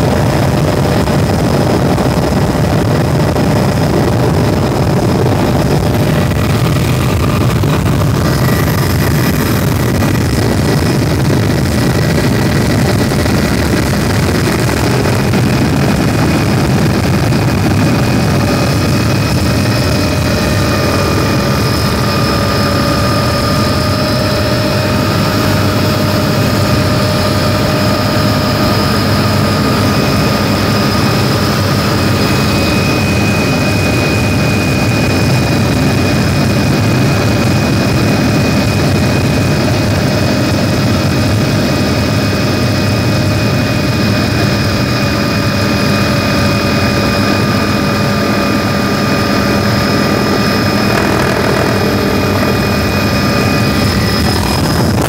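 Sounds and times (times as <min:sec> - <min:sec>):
helicopter engine and rotor noise: 0:00.0 - 0:55.0.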